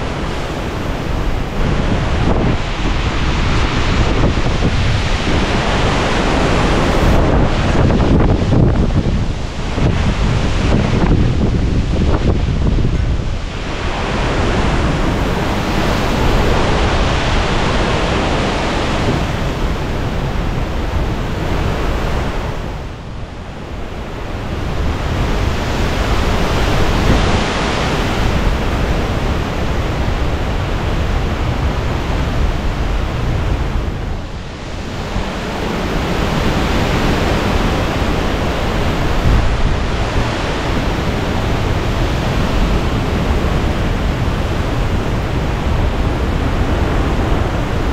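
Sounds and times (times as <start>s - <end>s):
strong wind buffeting microphone: 0.0s - 47.9s.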